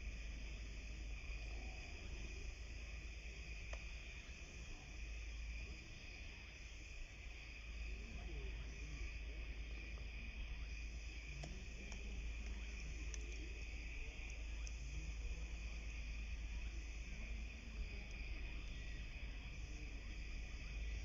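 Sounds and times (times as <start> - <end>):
insect chorus shrill drone: 0.0 - 21.0.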